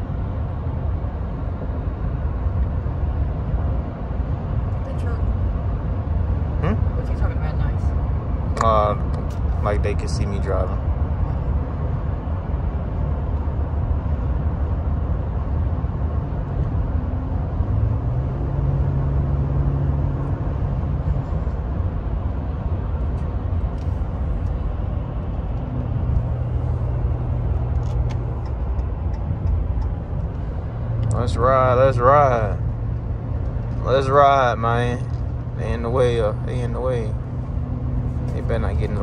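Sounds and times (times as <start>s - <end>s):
engine hum: 0.0s - 39.0s
road and engine rumble: 0.0s - 39.0s.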